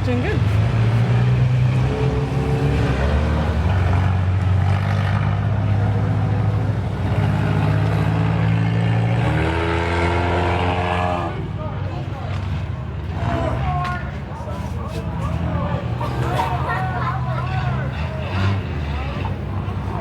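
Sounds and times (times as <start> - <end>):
engine revving: 0.0 - 11.7, 15.3 - 20.0
race car engines running: 0.0 - 20.0.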